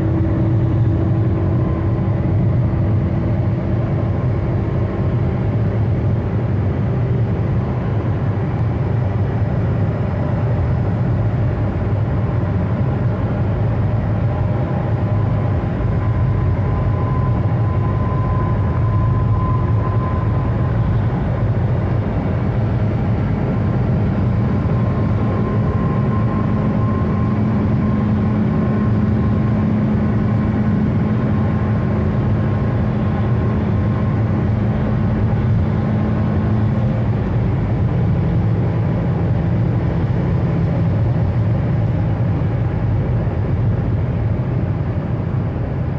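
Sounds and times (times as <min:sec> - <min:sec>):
car engine droning at high revs: 0:00.0 - 0:45.9
road and wind noise: 0:00.0 - 0:45.9.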